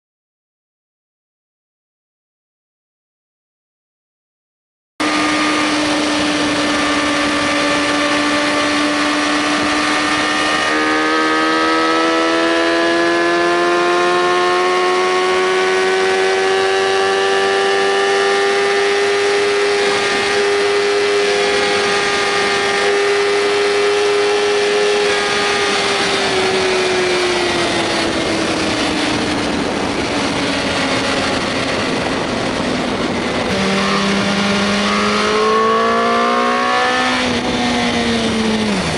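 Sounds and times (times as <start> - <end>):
wind rush: 5.0 - 12.1, 13.3 - 38.9
motorcycle engine running: 5.0 - 38.9.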